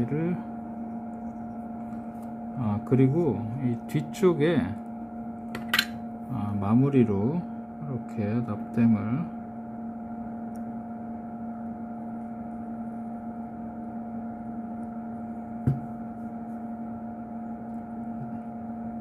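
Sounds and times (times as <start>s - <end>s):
two-pitch electrical hum: 0.0s - 19.0s.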